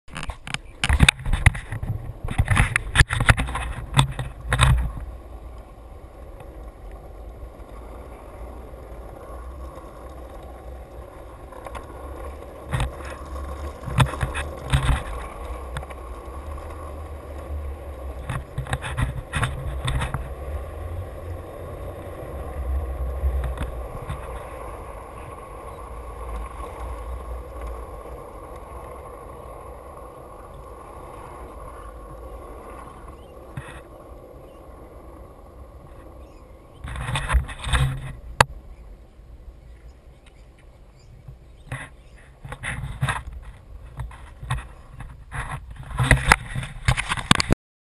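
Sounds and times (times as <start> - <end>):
skateboard clicks and knocks: 0.1 - 47.6
skateboard wheels rolling on asphalt: 0.1 - 47.6.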